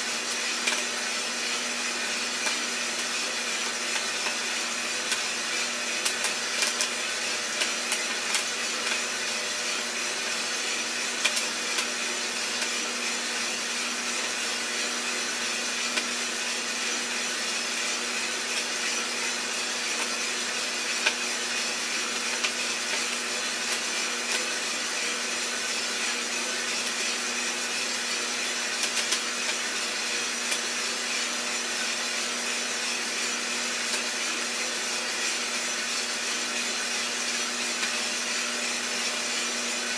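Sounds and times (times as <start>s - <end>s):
coffee roaster motor hum: 0.0s - 39.9s
coffee beans popping: 0.3s - 39.9s.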